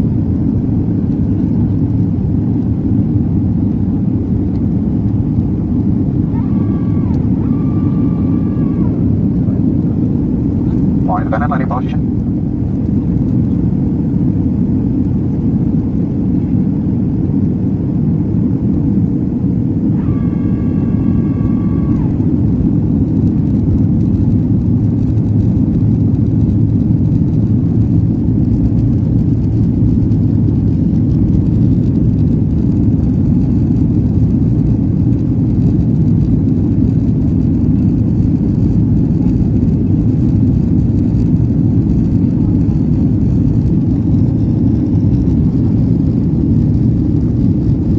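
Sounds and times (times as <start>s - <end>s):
jet engine and airflow rumble: 0.0s - 47.9s.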